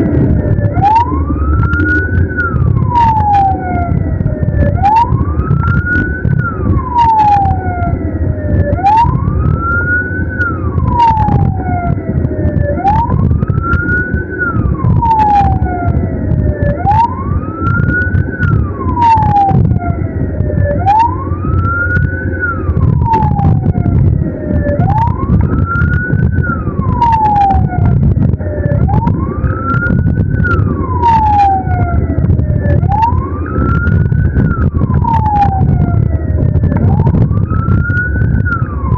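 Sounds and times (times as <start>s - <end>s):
ambulance siren wailing: 0.0s - 38.9s
engine and road rumble: 0.0s - 38.9s.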